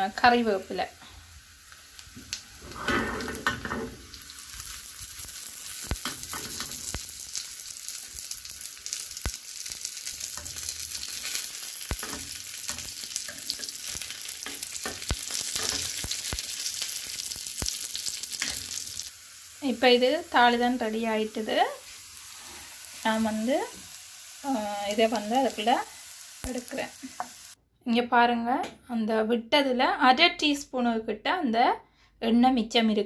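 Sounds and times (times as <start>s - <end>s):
food sizzling in hot oil: 0.0s - 27.6s.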